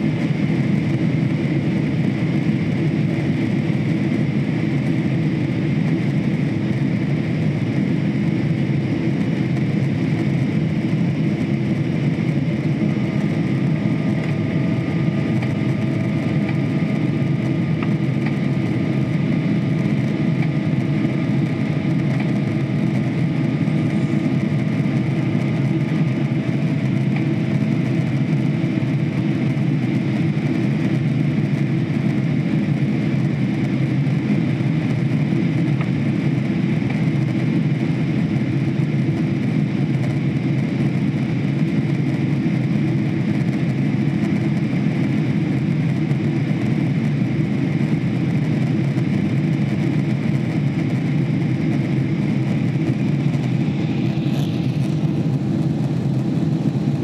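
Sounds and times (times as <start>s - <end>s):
airflow rush and jet engine drone: 0.0s - 57.0s.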